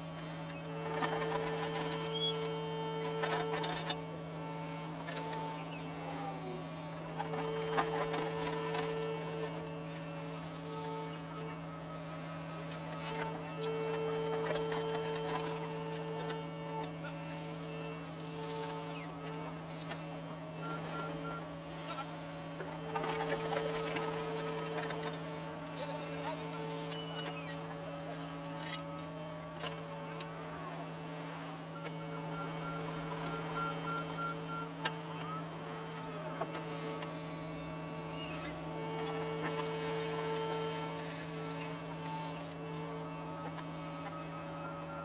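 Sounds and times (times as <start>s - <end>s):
excavator humming: 0.0s - 45.0s
hydraulic whine: 0.0s - 45.0s.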